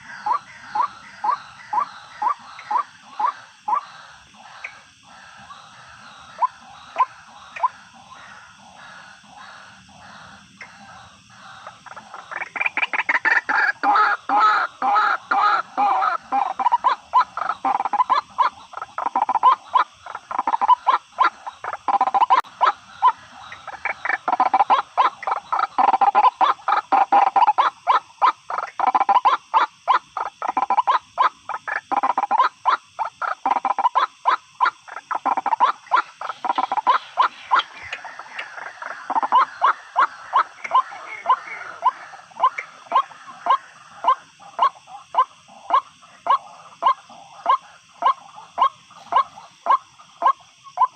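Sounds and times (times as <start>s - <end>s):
waterhen calls: 0.0s - 50.9s.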